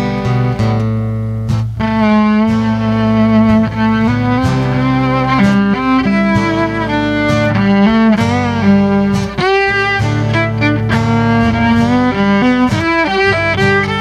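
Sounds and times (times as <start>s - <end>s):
steady bass line: 0.0s - 14.0s
fiddle playing slow melody: 1.7s - 14.0s.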